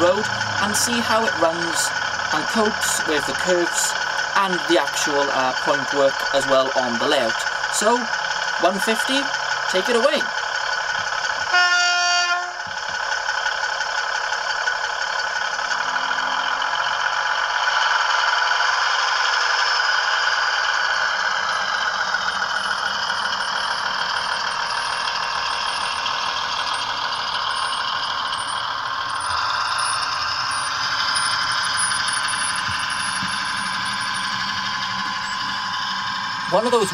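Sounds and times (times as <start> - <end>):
diesel engine sound from small speaker: 0.0 - 36.9
high wheel squeak: 0.0 - 36.9.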